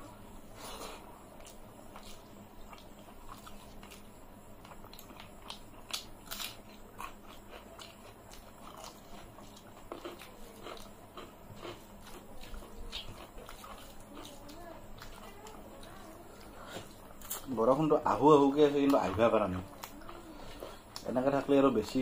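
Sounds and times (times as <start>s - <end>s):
wet chewing: 0.8s - 17.5s, 18.6s - 21.2s.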